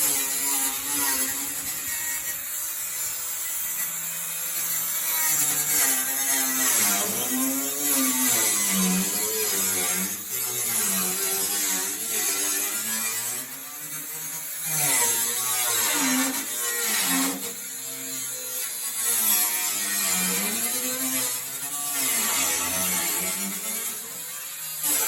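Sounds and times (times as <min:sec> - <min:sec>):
die grinder cutting metal: 0:00.0 - 0:25.0.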